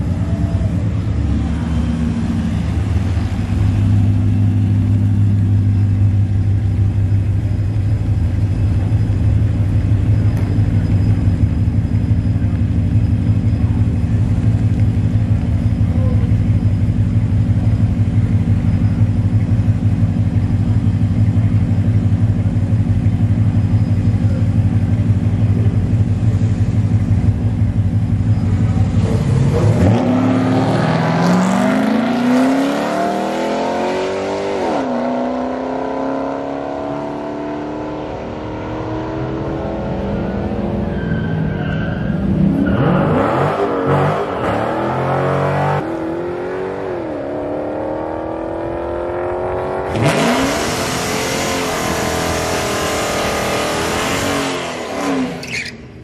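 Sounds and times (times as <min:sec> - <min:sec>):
pickup engine rumbling and revving: 0:00.0 - 0:56.0.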